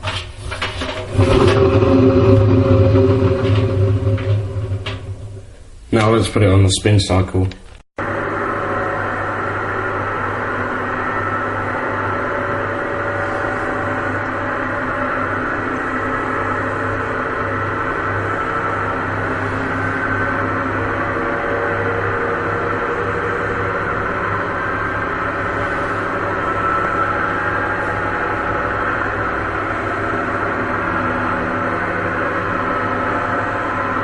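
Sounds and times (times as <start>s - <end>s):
washing machine spinning: 0.0s - 6.2s, 8.0s - 34.0s.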